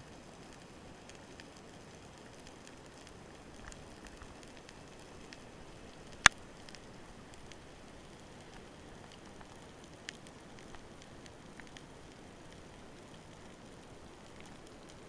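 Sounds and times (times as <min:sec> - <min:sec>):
faint clicks and crackles: 0:00.0 - 0:15.0.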